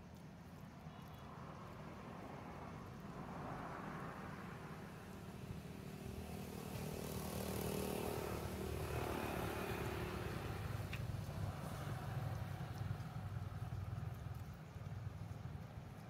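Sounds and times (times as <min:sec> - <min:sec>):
passing vehicle engine hum: 0:01.2 - 0:16.0.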